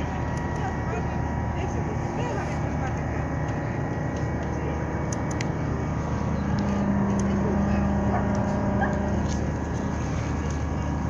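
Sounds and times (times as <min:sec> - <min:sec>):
ship engines droning: 0:00.0 - 0:11.0
steady hum: 0:00.0 - 0:11.0.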